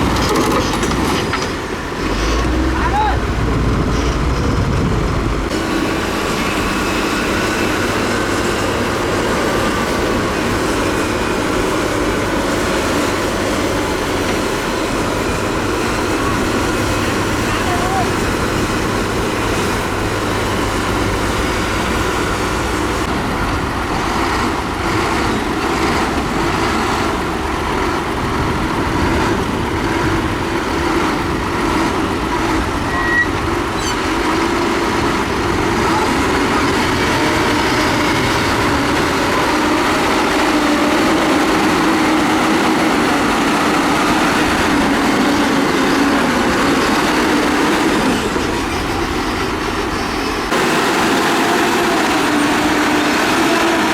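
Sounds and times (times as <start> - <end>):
heavy diesel machinery under load: 0.0 - 53.9.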